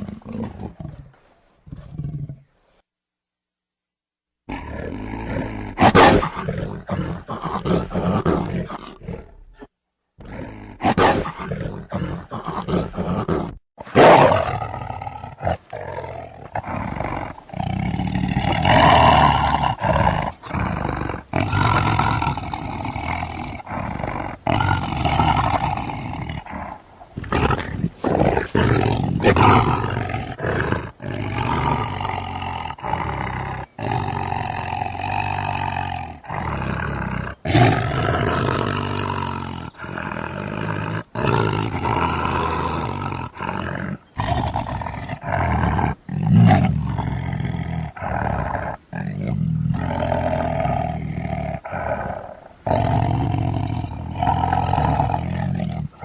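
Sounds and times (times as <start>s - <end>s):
tiger roaring: 0.0s - 2.5s, 4.5s - 56.0s.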